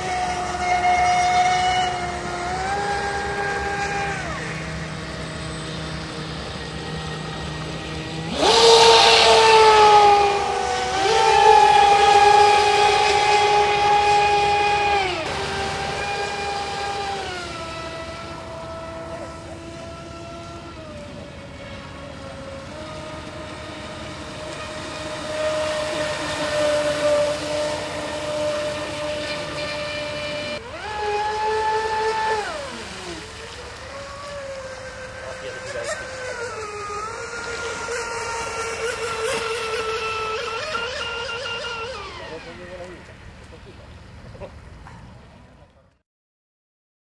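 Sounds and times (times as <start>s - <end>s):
model boat motor whining: 0.0s - 45.6s
water hissing: 0.2s - 20.7s, 22.2s - 42.8s.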